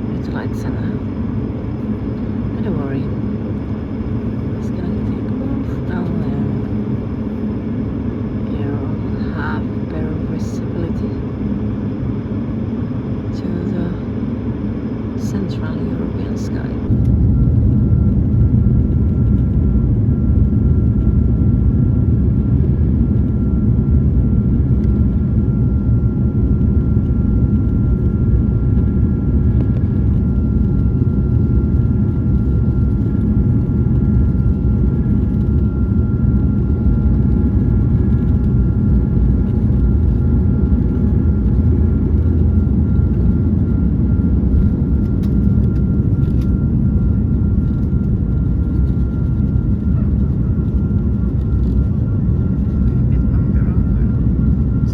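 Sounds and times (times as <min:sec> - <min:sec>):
aircraft cabin engine rumble: 0:00.0 - 0:54.9
faint steady whine: 0:00.0 - 0:54.9.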